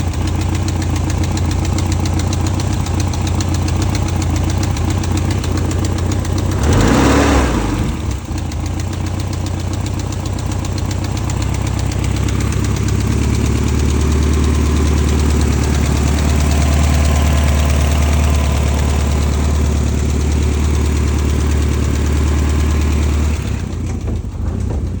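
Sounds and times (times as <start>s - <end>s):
car engine idling with ticking: 0.0s - 25.0s.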